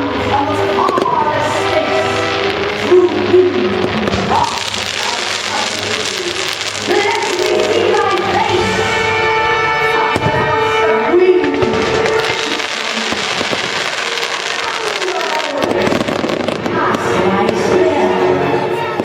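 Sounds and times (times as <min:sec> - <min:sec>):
fireworks bursting: 0:00.0 - 0:10.7, 0:11.4 - 0:18.1
fireworks crackling: 0:00.0 - 0:18.2
orchestral soundtrack: 0:00.0 - 0:19.0.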